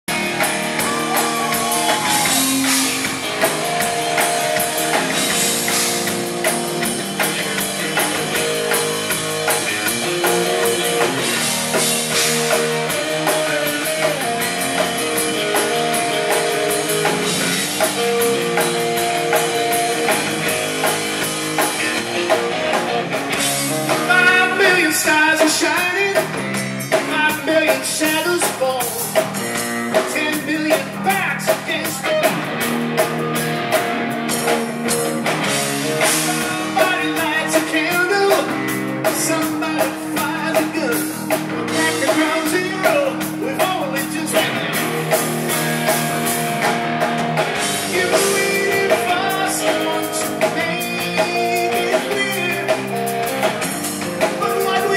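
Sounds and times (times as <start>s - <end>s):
rock band playing: 0.0s - 54.9s
bending lead guitar line: 0.1s - 54.9s.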